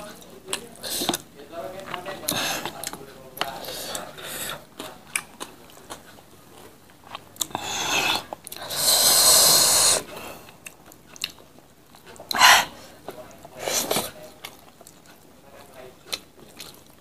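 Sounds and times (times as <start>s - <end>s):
chewing and crunching food: 0.0s - 9.2s, 10.1s - 17.0s.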